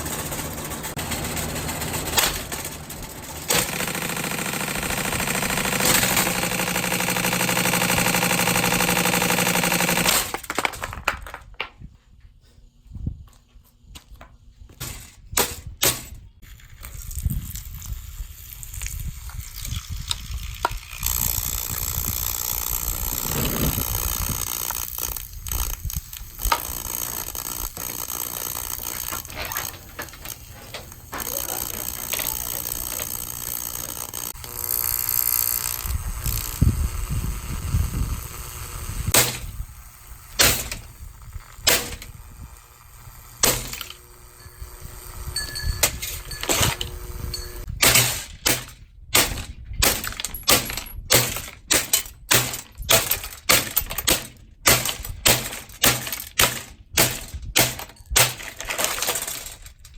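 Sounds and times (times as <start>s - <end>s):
plastic fan cracking and crunching: 0.0s - 11.6s, 16.0s - 39.6s, 45.9s - 59.9s.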